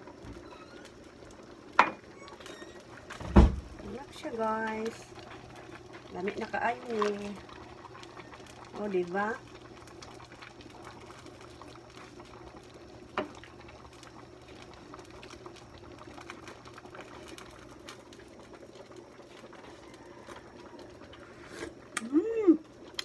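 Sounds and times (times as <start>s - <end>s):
pot simmering: 0.0s - 23.0s.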